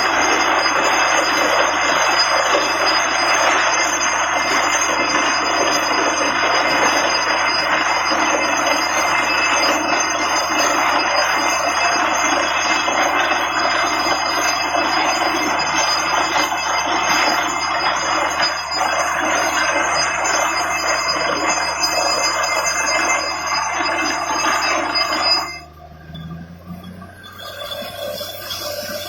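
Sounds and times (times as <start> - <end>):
drilling rig grinding: 0.0 - 29.0
high-pitched ringing tones: 0.0 - 29.0.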